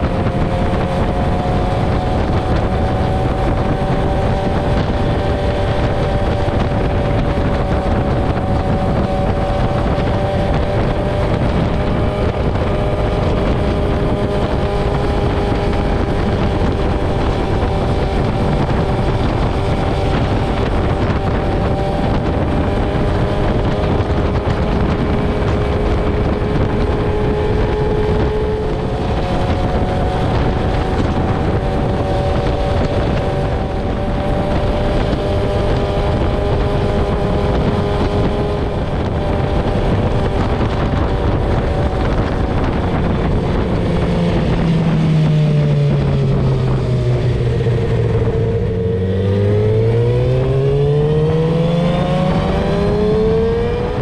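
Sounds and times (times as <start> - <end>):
motorcycle engines cruising: 0.0 - 54.0
wind noise on microphone: 0.0 - 54.0.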